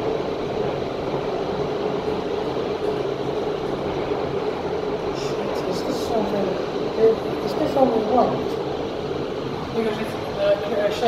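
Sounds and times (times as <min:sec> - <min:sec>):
elevator car humming: 0:00.0 - 0:11.0.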